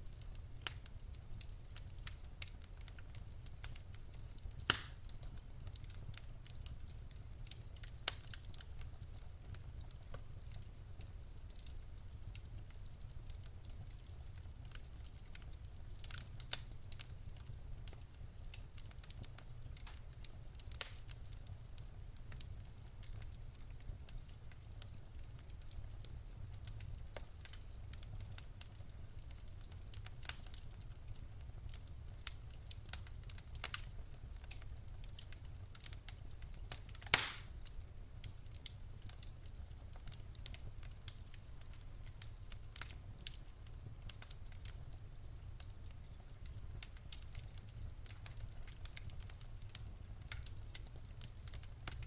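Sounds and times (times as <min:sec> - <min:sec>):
loud crack of fire: 0:00.0 - 0:52.0
low rumble of flames: 0:00.0 - 0:52.0
wood fire crackling: 0:00.0 - 0:52.0.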